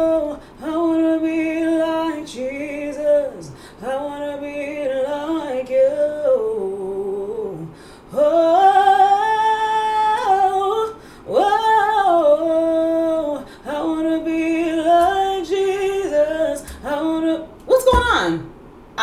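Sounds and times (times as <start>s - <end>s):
woman singing unaccompanied: 0.0s - 18.5s.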